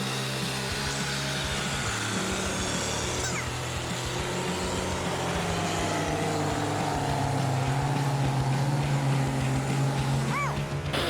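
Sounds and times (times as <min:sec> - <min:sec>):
truck engine running under load: 0:00.0 - 0:11.0.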